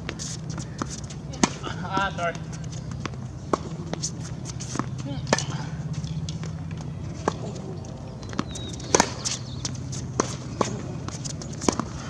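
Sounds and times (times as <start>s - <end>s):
steady low hum: 0.0s - 12.0s
tennis balls bouncing on court: 0.0s - 12.0s
tennis rackets striking balls: 0.0s - 12.0s.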